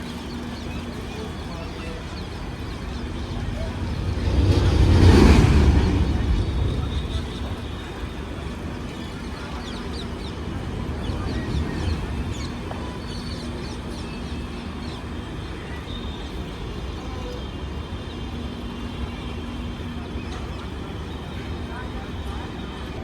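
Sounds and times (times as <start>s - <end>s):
constant hum: 0.0s - 23.0s
train low rumble: 0.0s - 23.0s.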